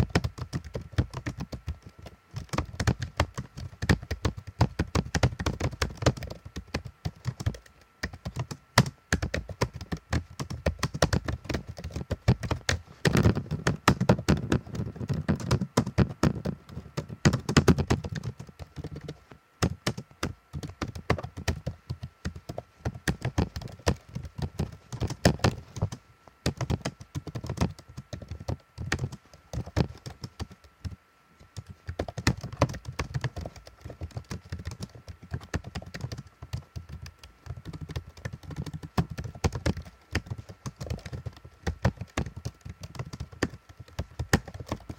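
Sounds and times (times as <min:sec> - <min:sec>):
computer keyboard typing: 0:00.0 - 0:44.9.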